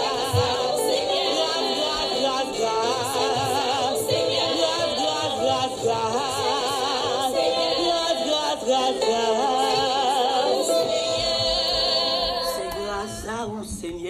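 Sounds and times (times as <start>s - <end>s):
music: 0.0s - 14.0s
person singing with vibrato: 0.0s - 14.0s.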